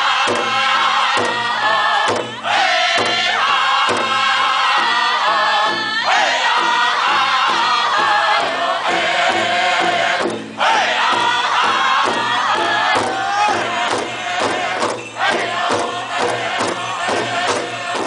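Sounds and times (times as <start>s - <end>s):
men singing high-pitched: 0.0s - 18.0s
large drum beating: 0.2s - 18.0s.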